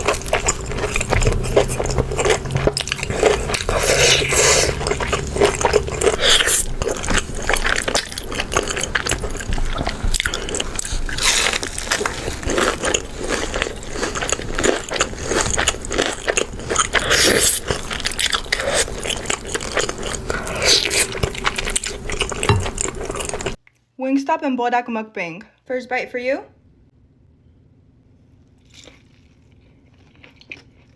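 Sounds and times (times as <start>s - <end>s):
crunchy chewing: 0.0s - 23.6s, 28.5s - 30.9s.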